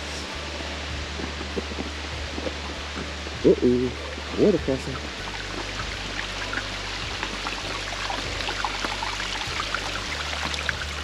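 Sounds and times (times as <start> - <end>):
stream trickling over rocks: 0.0 - 11.0.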